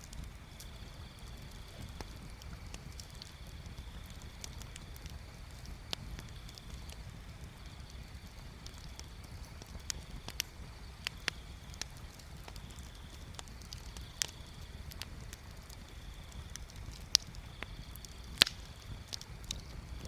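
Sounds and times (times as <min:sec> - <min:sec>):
bonfire crackling and popping: 0:00.0 - 0:20.0
low steady rumble: 0:00.0 - 0:20.0.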